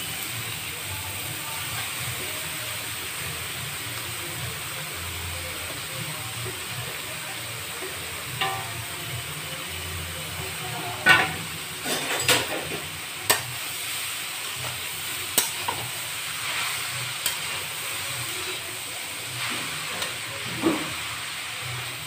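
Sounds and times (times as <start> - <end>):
carrots sizzling in pan: 0.0 - 22.0.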